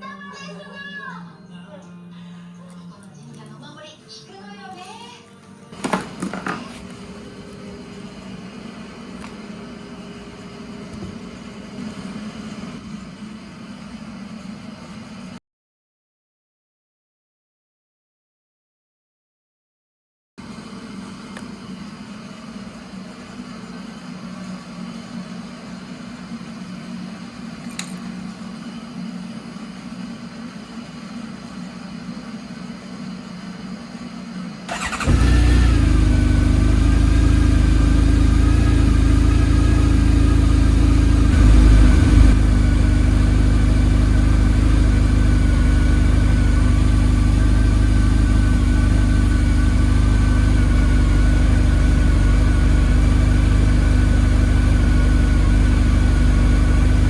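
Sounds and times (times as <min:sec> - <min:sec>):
motorcycle engine starting and idling: 0:05.7 - 0:15.4, 0:20.4 - 0:57.0.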